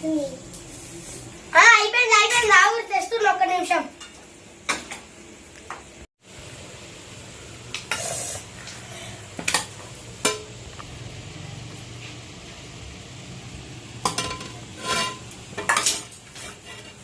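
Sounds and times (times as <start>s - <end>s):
low steady sizzle: 0.0s - 17.0s.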